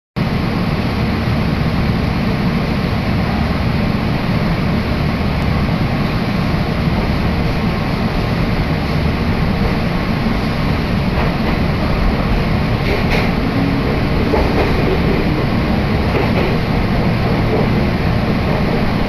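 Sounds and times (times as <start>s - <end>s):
train wheel and motor noise: 0.2s - 19.0s.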